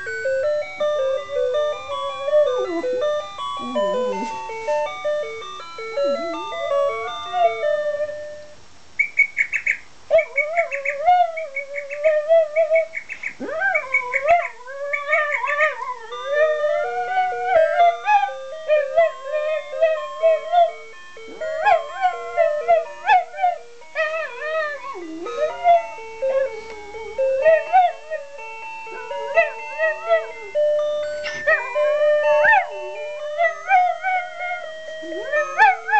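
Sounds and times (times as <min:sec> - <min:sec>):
alarm clock chime melody: 0:00.0 - 0:08.6, 0:13.4 - 0:35.9
dog howling: 0:01.4 - 0:03.0, 0:03.6 - 0:04.9, 0:06.0 - 0:08.4, 0:10.1 - 0:35.9.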